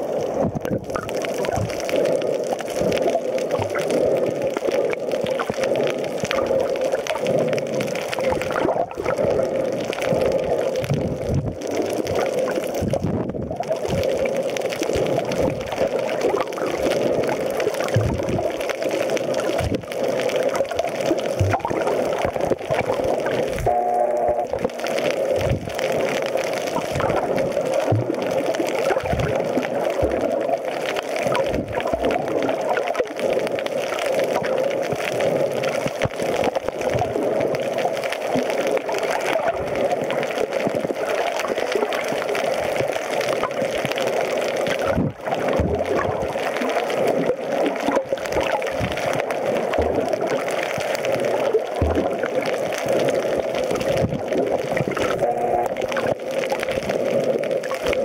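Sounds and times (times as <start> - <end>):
muffled underwater rush: 0.0 - 58.0.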